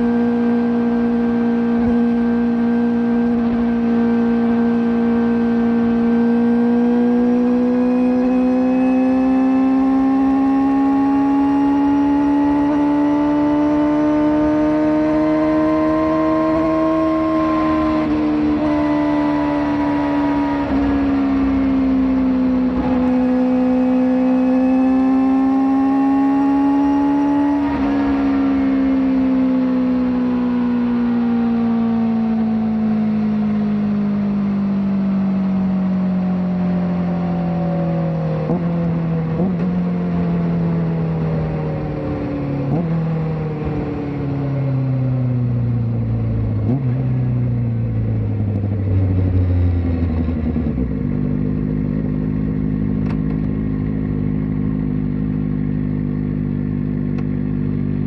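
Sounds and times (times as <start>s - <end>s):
motorcycle engine howling: 0.0s - 58.0s.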